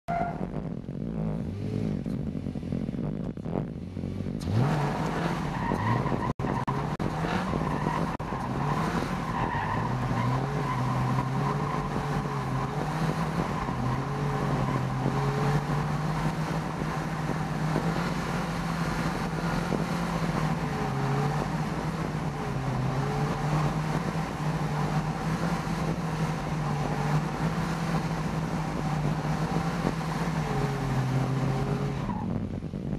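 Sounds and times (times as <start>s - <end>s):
car engine revving: 0.1s - 32.9s.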